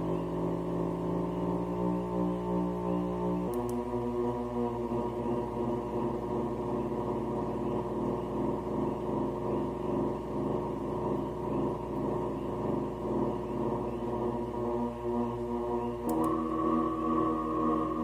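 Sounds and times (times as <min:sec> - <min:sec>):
buzzy synthesizer drone: 0:00.0 - 0:18.0.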